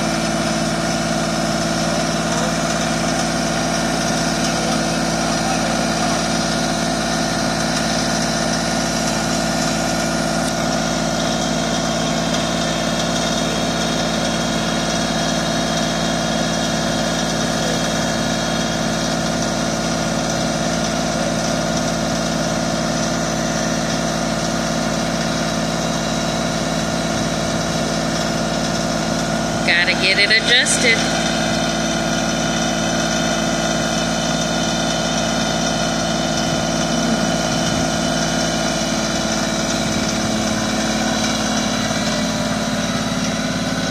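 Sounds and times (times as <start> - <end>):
tractor engine idling: 0.0 - 43.9.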